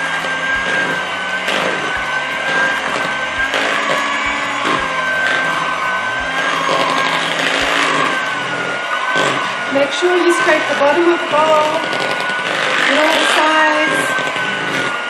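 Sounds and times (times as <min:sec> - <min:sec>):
electric hand mixer whine: 0:00.0 - 0:15.0.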